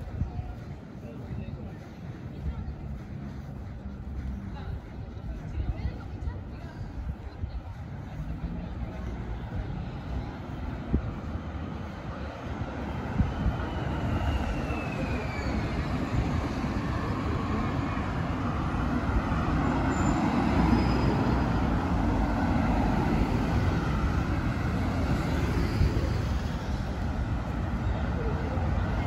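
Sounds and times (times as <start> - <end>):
cars passing with low rumble: 0.0 - 29.0.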